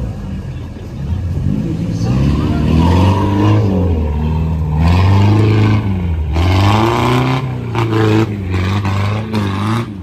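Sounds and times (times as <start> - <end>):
vehicle engine revving: 0.8 - 10.0.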